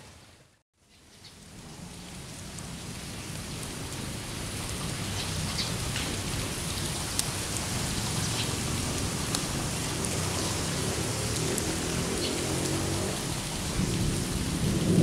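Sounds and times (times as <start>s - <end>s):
heavy rain falling: 1.3s - 15.0s.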